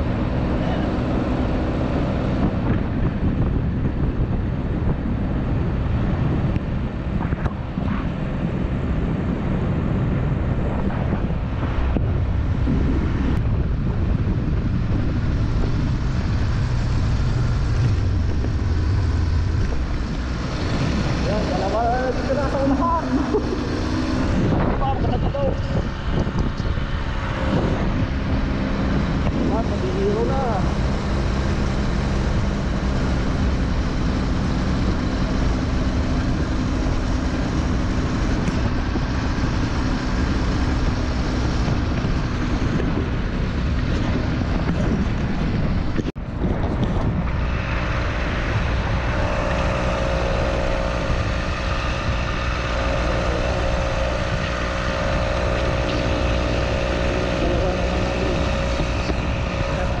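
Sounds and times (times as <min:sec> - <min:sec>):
tyres on asphalt: 0:00.0 - 1:00.0
wind buffeting microphone: 0:00.0 - 1:00.0.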